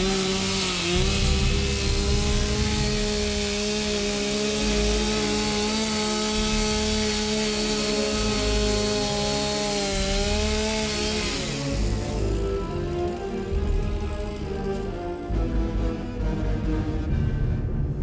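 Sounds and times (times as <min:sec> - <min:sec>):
chainsaw cutting wood: 0:00.0 - 0:15.3
music: 0:00.0 - 0:18.0.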